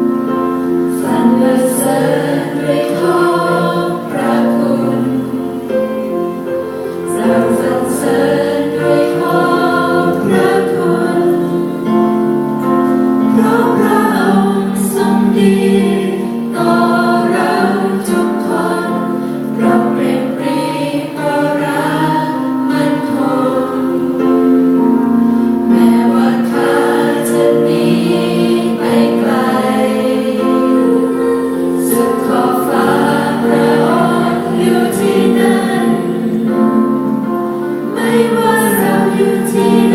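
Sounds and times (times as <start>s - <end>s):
youth choir singing in harmony: 0.0s - 39.9s.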